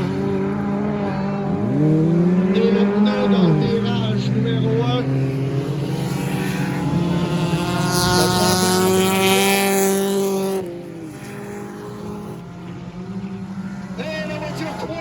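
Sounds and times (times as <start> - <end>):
car passing close: 0.0 - 15.0
stock car engines racing: 0.0 - 15.0.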